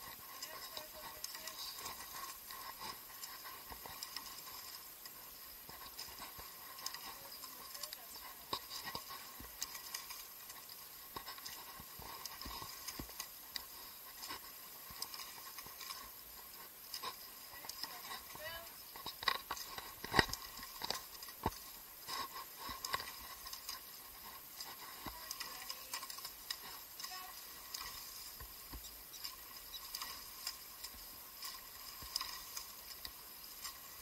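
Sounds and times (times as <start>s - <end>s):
faint steady hiss: 0.0s - 34.0s
light pattering and clicks: 0.0s - 34.0s.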